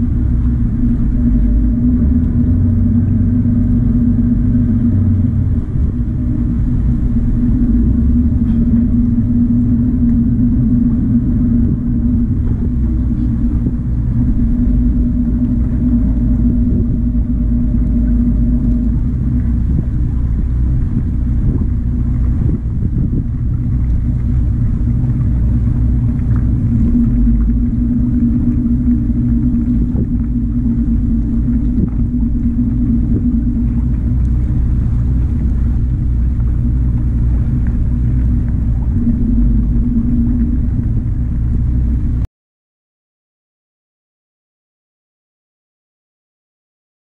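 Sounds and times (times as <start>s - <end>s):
boat engine rumbling: 0.0s - 42.3s.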